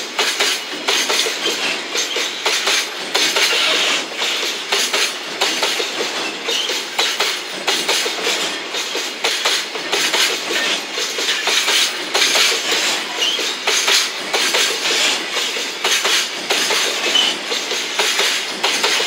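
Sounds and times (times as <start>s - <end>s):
freight train rumble and hiss: 0.0s - 19.0s
train wheels clicking over rail joints: 0.0s - 19.0s.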